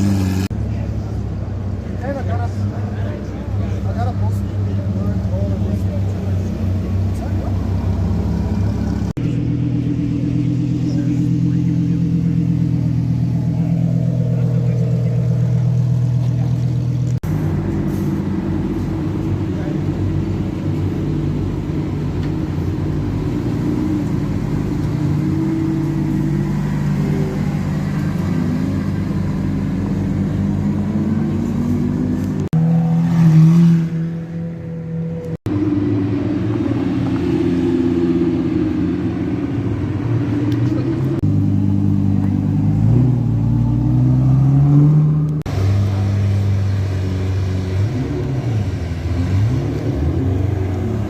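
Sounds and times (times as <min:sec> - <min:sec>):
sports car engines revving: 0:00.0 - 0:51.0.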